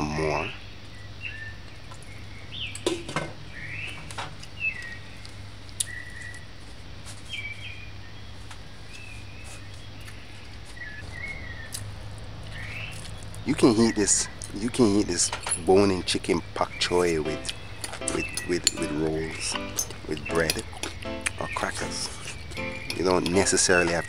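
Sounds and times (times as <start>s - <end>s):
birds chirping: 0.0s - 6.6s, 7.2s - 24.0s.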